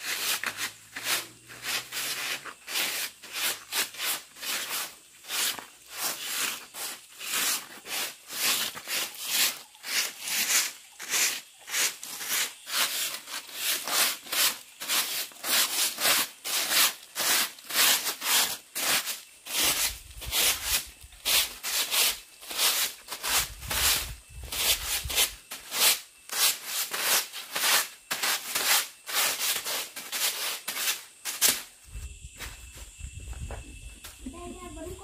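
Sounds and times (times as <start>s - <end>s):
rough scraping strokes: 0.0s - 31.7s.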